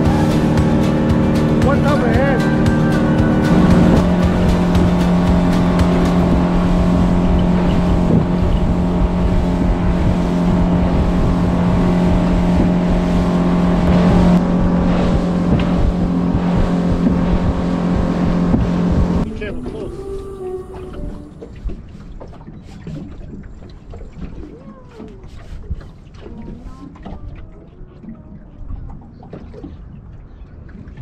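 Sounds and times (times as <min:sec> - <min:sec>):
outboard motor running: 0:00.0 - 0:31.0
wind buffeting microphone: 0:00.0 - 0:31.0.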